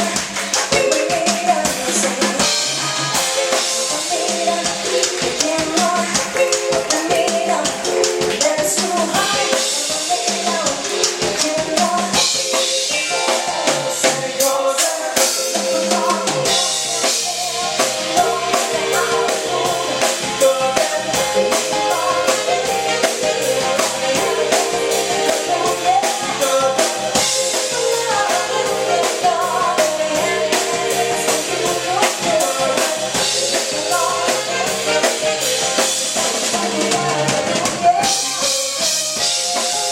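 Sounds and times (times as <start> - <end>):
bass: 0.0 - 39.9
drum kit: 0.0 - 39.9
keyboard: 0.0 - 39.9.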